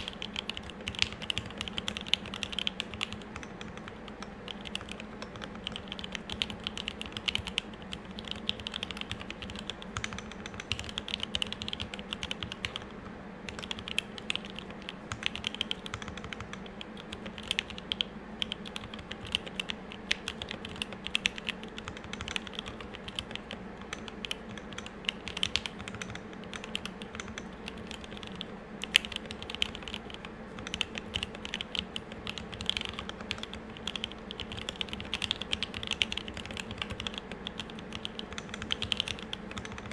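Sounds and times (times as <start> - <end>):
mechanical keyboard typing: 0.0 - 12.9, 13.5 - 39.9
steady low hum: 0.0 - 39.9.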